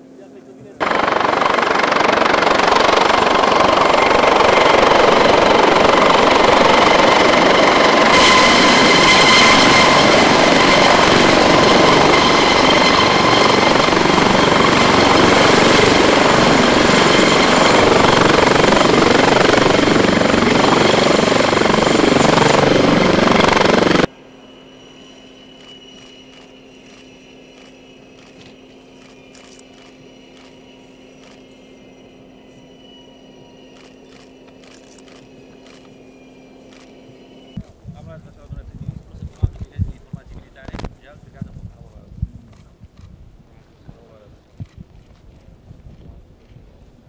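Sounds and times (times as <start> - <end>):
helicopter rotor noise: 0.0 - 47.0
high turbine whine: 0.0 - 47.0.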